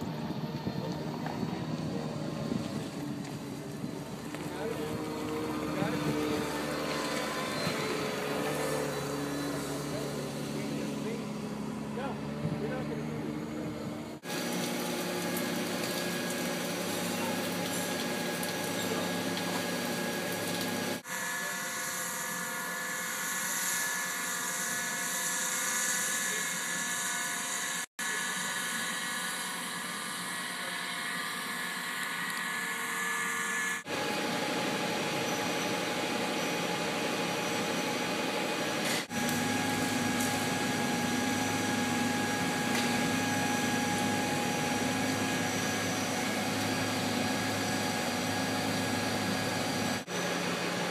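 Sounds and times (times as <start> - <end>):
industrial machinery drone: 0.0 - 50.9.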